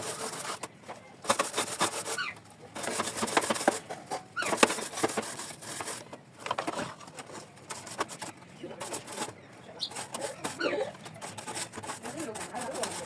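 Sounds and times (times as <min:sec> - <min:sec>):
bird calls: 0:00.0 - 0:02.8, 0:03.5 - 0:13.0
brush scrubbing a grill plate: 0:00.0 - 0:13.0.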